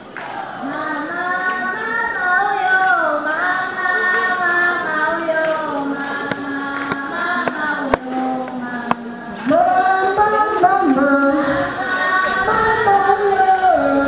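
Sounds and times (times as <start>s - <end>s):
high voice singing slow melody: 0.5s - 14.0s.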